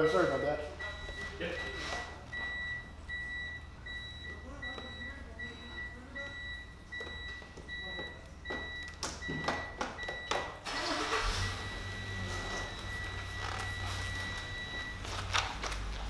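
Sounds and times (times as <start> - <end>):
truck reversing alarm beeping: 0.0 - 16.0.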